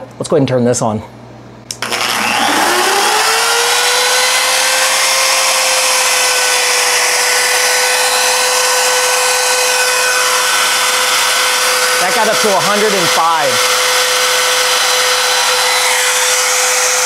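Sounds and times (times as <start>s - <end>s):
router motor whining: 1.7s - 17.0s.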